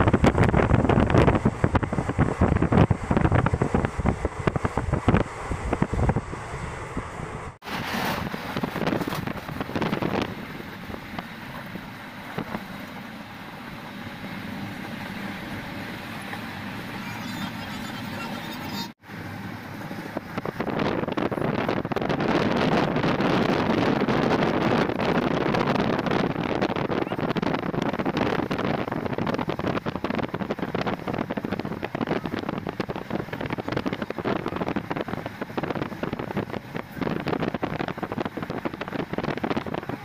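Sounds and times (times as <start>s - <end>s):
passenger train rumbling: 0.0s - 40.0s
wind buffeting microphone: 0.0s - 40.0s.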